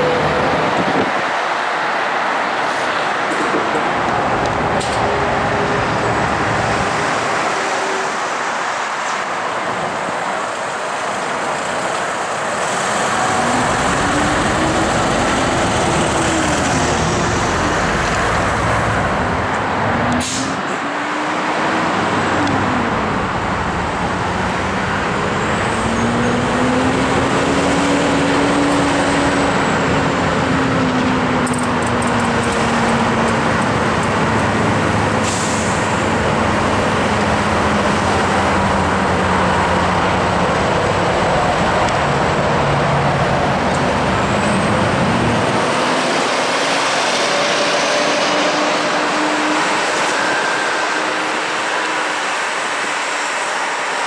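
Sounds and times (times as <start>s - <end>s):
heavy diesel vehicles passing: 0.0s - 54.0s.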